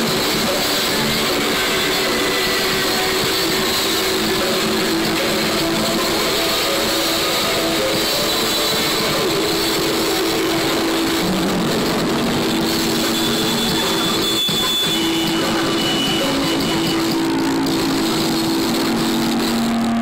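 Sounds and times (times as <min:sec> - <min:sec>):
distorted heavy rock band: 0:00.0 - 0:20.0.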